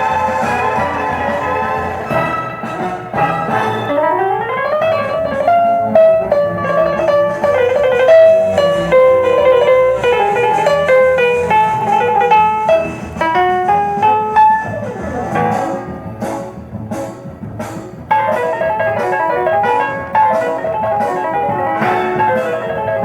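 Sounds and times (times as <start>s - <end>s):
solo piano music from record: 0.0s - 23.0s.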